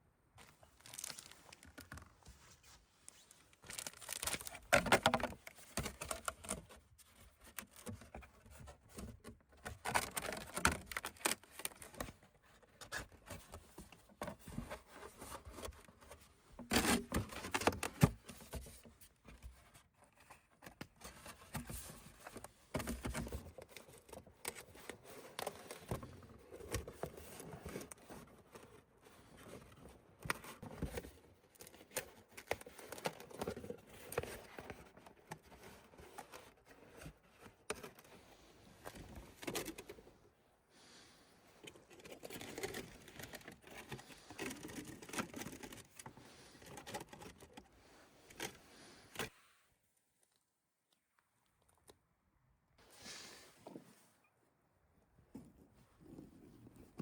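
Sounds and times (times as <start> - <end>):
objects rustling and scraping: 0.4 - 49.6, 52.8 - 54.4.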